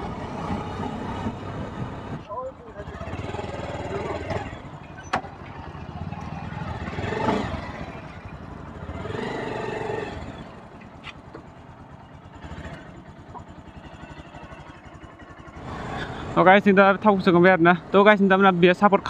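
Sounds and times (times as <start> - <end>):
motorcycle engine idling: 0.1 - 18.0.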